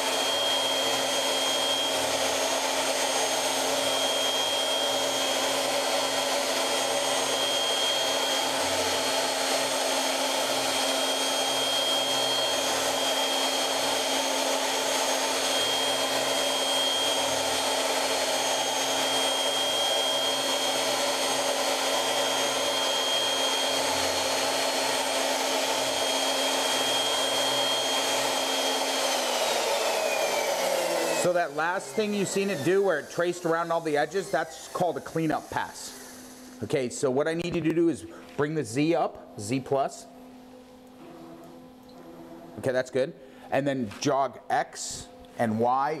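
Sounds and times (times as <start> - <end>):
machine spindle high whine: 0.0 - 37.2, 40.8 - 42.8.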